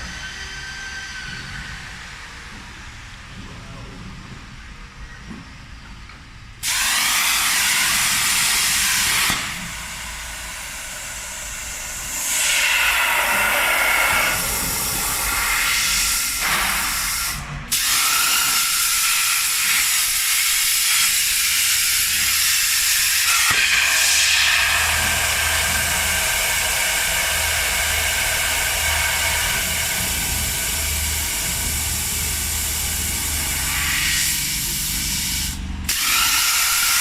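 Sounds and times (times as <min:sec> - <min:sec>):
plasma torch hissing: 0:06.6 - 0:37.0.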